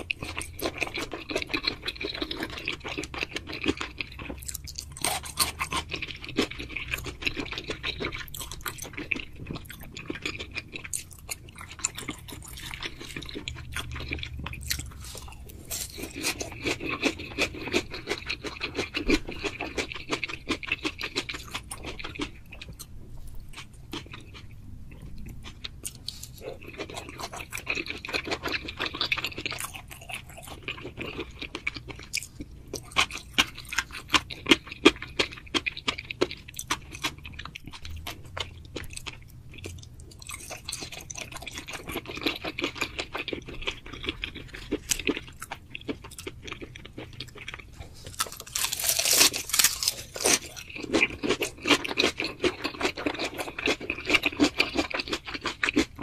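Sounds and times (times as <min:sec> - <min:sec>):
chewing with wet mouth clicks: 0:00.0 - 0:56.0.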